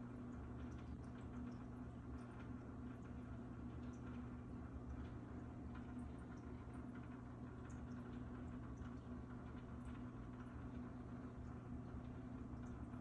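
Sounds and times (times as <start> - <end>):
aquarium filter humming: 0.0 - 13.0
small bubble ticks: 0.0 - 13.0
water trickling: 0.0 - 13.0.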